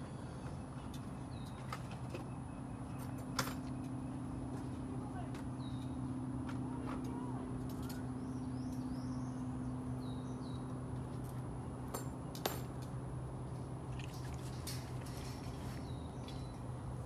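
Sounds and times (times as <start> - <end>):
birds chirping: 0.0 - 17.0
low hum: 0.0 - 17.0.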